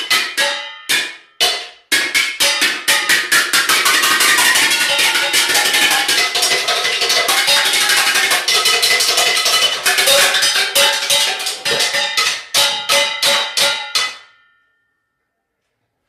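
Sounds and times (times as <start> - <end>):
saucepans beaten with a stick: 0.0 - 14.4.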